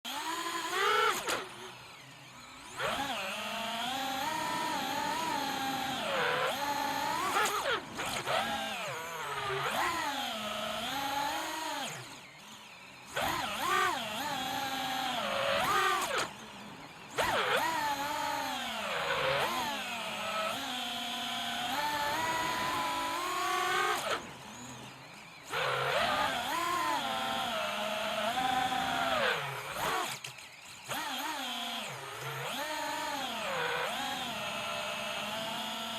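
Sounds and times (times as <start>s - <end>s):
drone motors whining: 0.1s - 35.9s.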